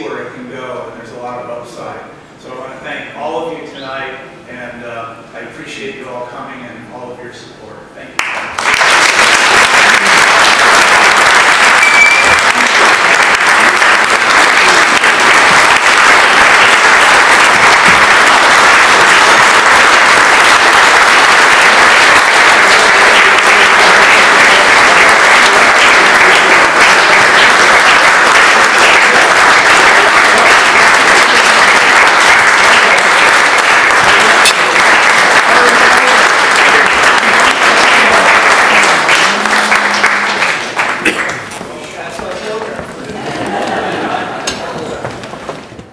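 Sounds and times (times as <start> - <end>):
audience applauding: 8.2 - 45.3.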